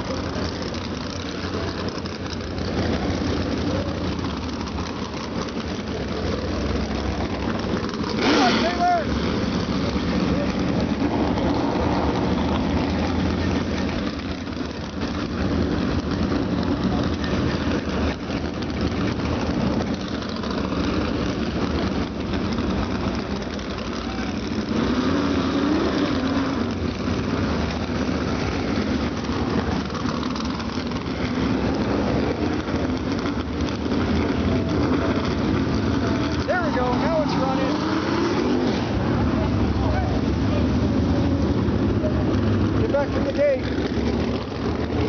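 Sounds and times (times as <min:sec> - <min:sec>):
race car engines rumbling: 0:00.0 - 0:45.0.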